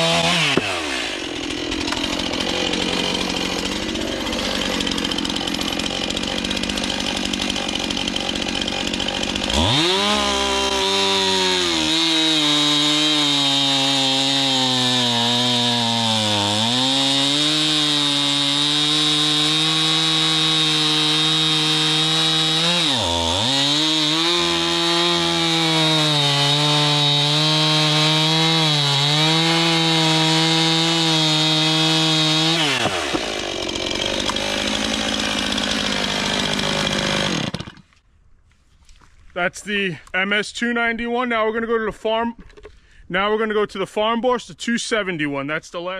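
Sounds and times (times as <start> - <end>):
chainsaw cutting log: 0.0 - 38.0.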